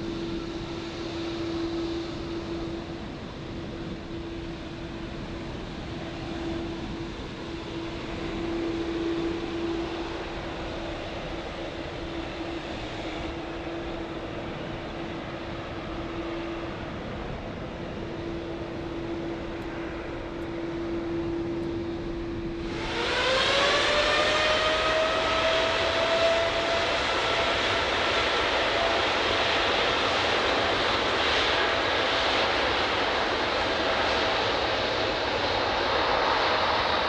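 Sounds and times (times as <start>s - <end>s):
jet engine whine rising in pitch: 0.0s - 37.0s
jet engines running with whine: 0.0s - 37.0s.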